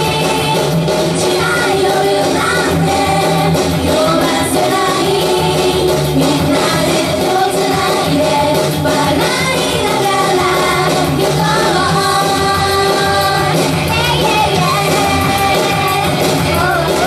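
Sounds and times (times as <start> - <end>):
pop backing music: 0.0 - 17.0
two women singing: 0.0 - 17.0.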